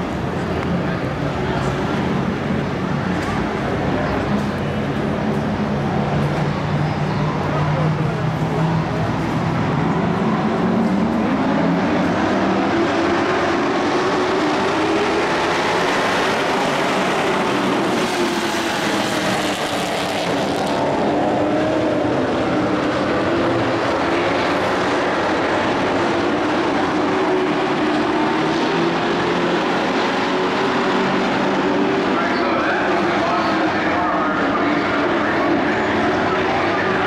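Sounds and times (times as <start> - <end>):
race truck engines: 0.0 - 37.0.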